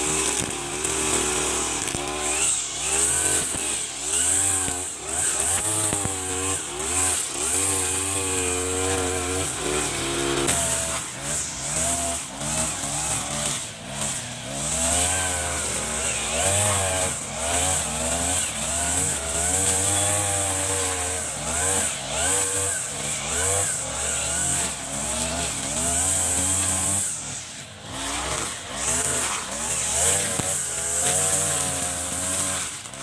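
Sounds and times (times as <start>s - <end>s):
brush cutter engine revving: 0.0s - 33.0s.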